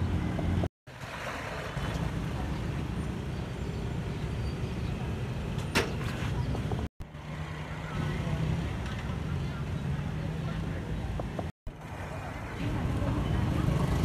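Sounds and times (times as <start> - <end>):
vehicle engine rumble: 0.0 - 0.7, 1.5 - 14.0.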